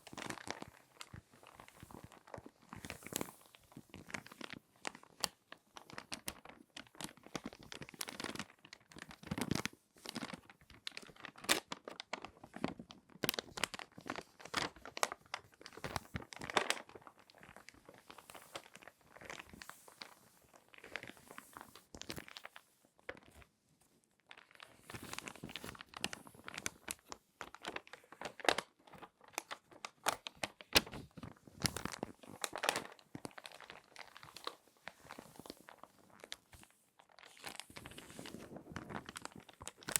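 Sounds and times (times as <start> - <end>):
magazine pages crinkling: 0.0 - 23.5, 24.3 - 39.9.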